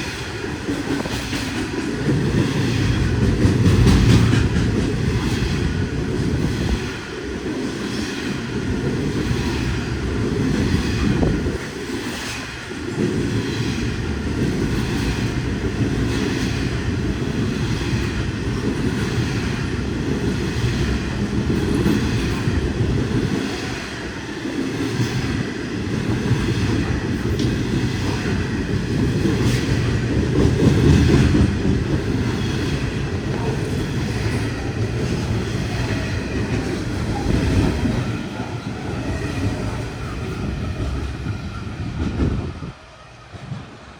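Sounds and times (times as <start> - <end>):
freight train rumbling past: 0.0 - 43.9.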